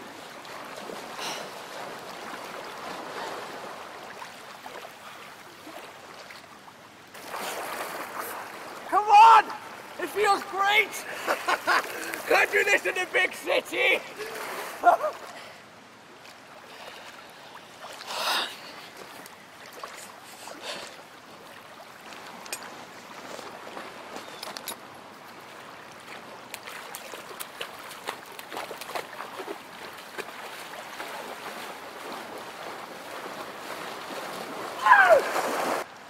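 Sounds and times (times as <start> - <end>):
water splashing from swimming: 0.0 - 6.5, 7.1 - 13.4, 14.0 - 24.2, 25.2 - 36.0.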